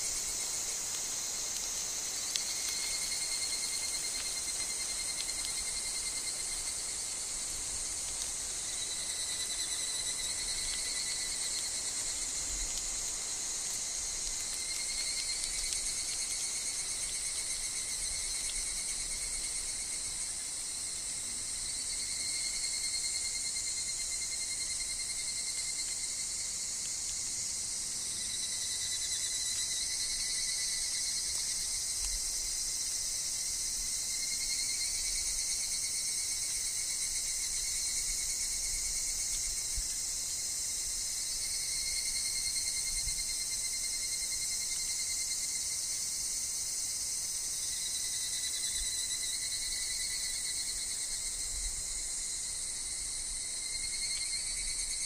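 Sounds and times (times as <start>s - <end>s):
cicadas calling: 0.0s - 21.0s, 21.6s - 55.0s.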